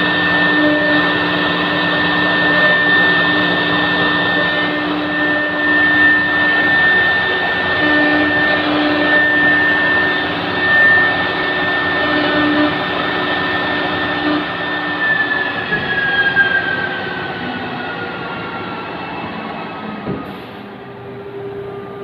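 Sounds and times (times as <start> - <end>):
router spindle high whine: 0.0 - 22.0.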